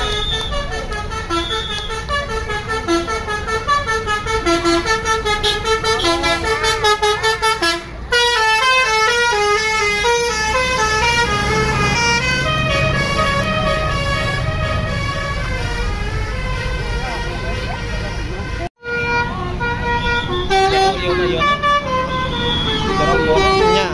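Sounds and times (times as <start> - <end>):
bus engine rumbling: 0.0 - 23.9
multi-tone bus horn tune: 0.0 - 23.9.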